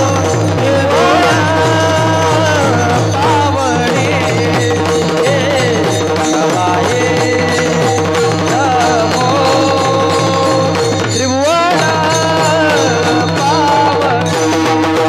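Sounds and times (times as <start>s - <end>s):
hand drum beat: 0.0s - 15.0s
person singing devotional song: 0.0s - 15.0s.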